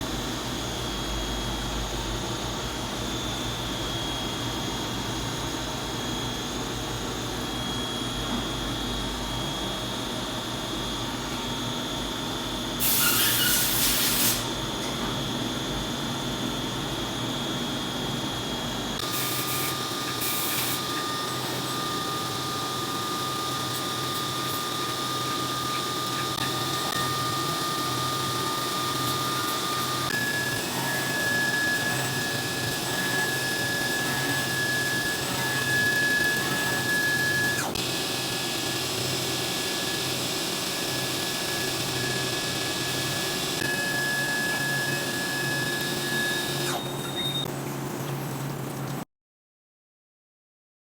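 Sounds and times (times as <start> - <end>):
milling machine humming: 0.0 - 47.5.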